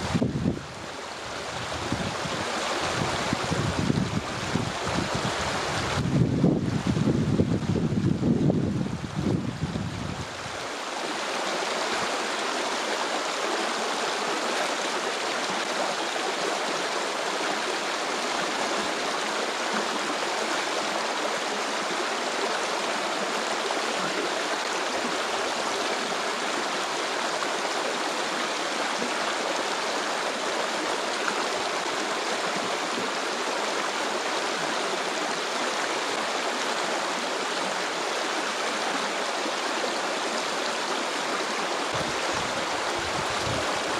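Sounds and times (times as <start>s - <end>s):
stream water rushing: 0.0s - 43.9s.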